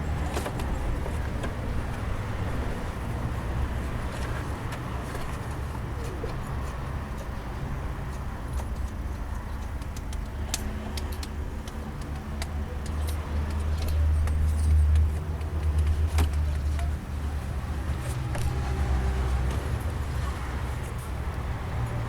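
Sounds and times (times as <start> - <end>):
diesel engine humming: 0.0 - 22.0
short engine clicks and ticks: 0.1 - 22.0.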